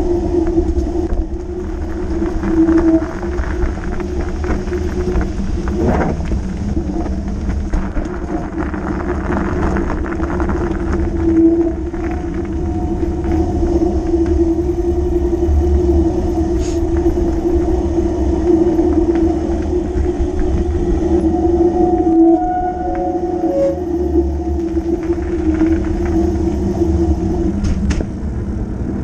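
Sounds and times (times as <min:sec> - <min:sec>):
bike tyres rolling on gravel: 0:00.0 - 0:29.0
low rumble: 0:00.0 - 0:29.0.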